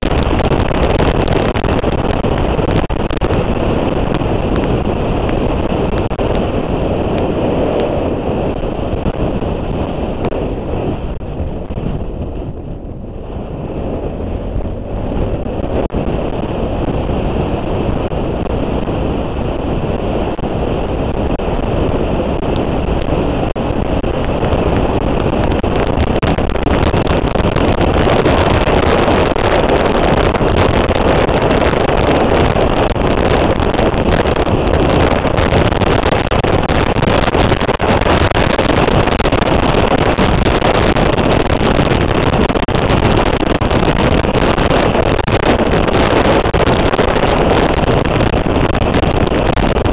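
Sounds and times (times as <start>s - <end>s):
motorcycle engine roar: 0.0s - 49.9s
wind rushing over microphone: 0.0s - 49.9s.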